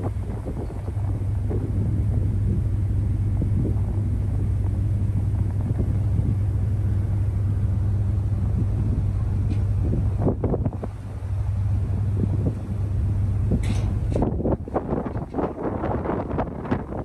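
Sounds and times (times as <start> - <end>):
ferry engine droning: 0.0 - 17.0
wind on microphone: 0.0 - 17.0.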